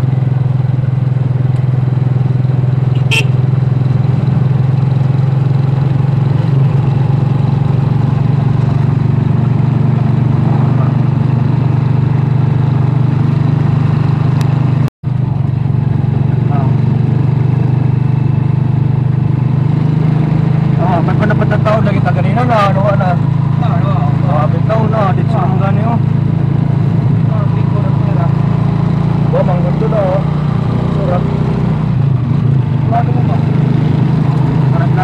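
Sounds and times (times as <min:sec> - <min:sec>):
motorcycle engine running: 0:00.0 - 0:35.0
road noise: 0:00.0 - 0:35.0.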